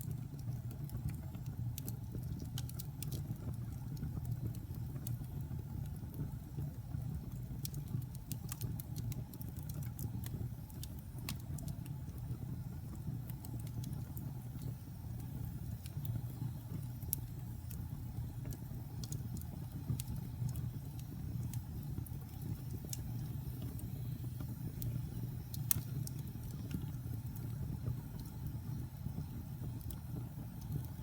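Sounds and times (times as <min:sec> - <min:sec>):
fire crackling and popping: 0:00.0 - 0:31.0
log fire rumbling: 0:00.0 - 0:31.0.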